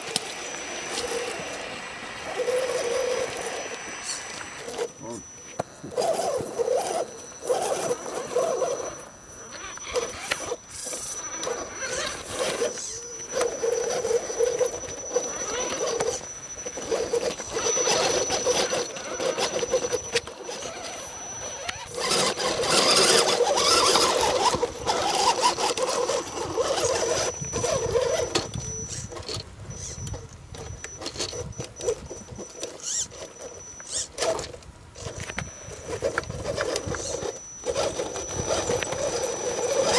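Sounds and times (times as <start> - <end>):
tyres scraping on rock: 0.0 - 30.0, 30.6 - 39.9
electric motor whining: 0.0 - 39.9
thin high steady whine: 0.0 - 39.9.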